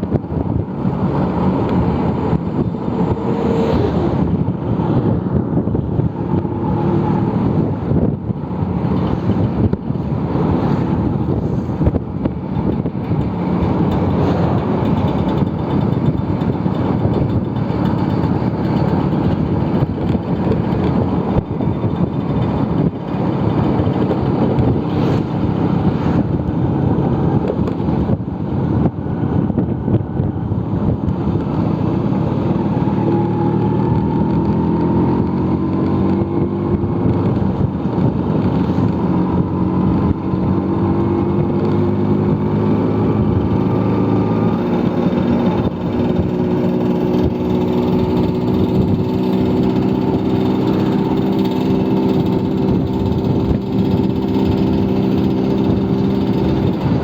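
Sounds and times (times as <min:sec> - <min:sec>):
scooter engine running: 0:00.0 - 0:57.0
wind rushing over microphone: 0:00.0 - 0:57.0.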